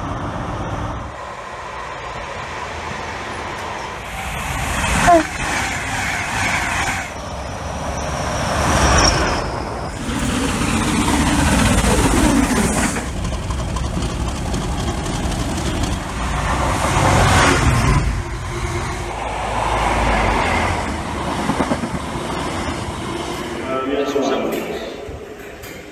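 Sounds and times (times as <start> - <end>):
diesel locomotive approaching: 0.0 - 25.9
electric train rushing past: 0.0 - 25.9
steam locomotive: 0.0 - 25.9.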